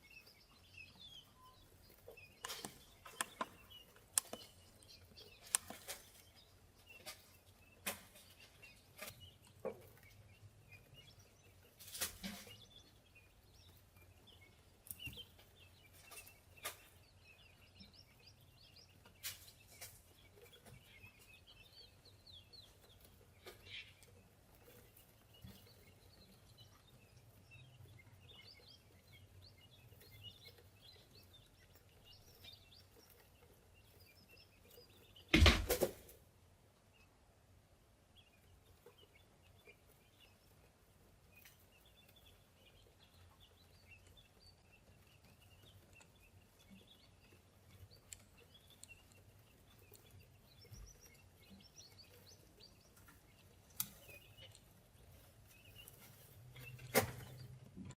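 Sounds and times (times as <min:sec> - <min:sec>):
tiny birds chirping: 0:00.0 - 0:57.9.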